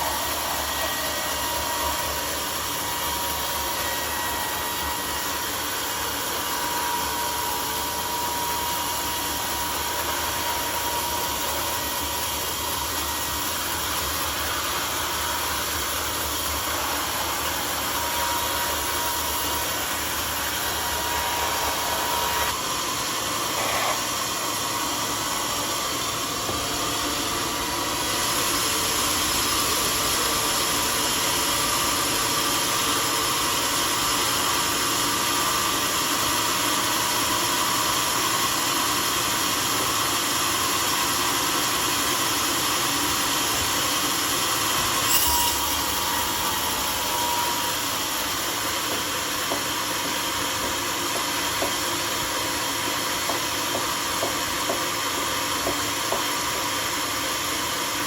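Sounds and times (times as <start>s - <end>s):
sawmill sawing log: 0.0s - 58.0s.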